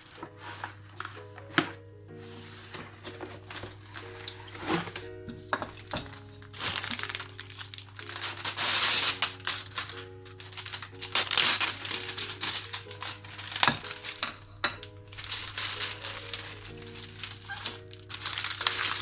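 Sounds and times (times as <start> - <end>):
crinkling and rustling: 0.0 - 19.0
soft background music: 0.0 - 19.0.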